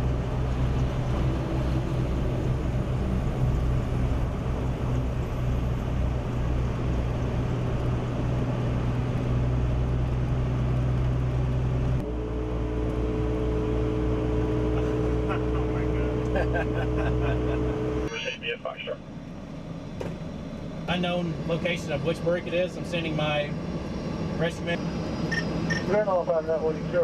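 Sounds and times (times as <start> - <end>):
road or wind noise: 0.0 - 27.0
vehicle engine droning: 0.0 - 27.0.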